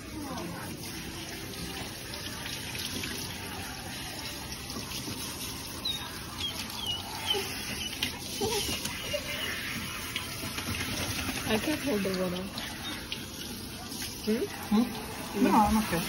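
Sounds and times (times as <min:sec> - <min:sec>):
water splashing on tub floor: 0:00.0 - 0:16.0
water spraying from hose: 0:00.0 - 0:16.0.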